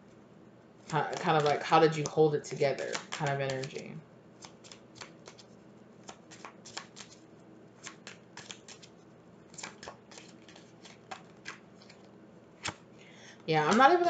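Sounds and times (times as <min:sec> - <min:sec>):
cards being shuffled: 0:00.8 - 0:12.8, 0:13.6 - 0:14.0.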